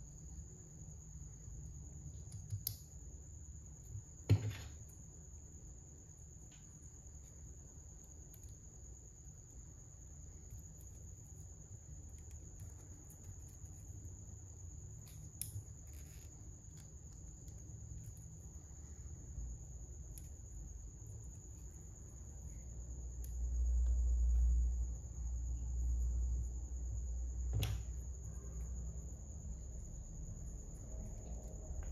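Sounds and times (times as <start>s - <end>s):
steady high-pitched whine: 0.0s - 31.9s.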